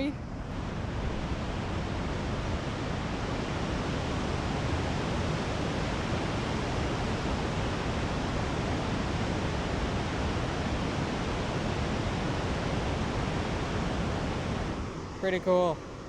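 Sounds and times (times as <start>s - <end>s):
large waterfall rushing: 0.0s - 15.8s.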